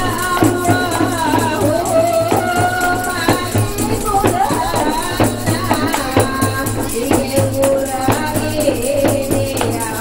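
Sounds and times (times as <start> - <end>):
hand frame drums: 0.0 - 10.0
tambourines shaking: 0.0 - 10.0
women singing: 0.0 - 10.0.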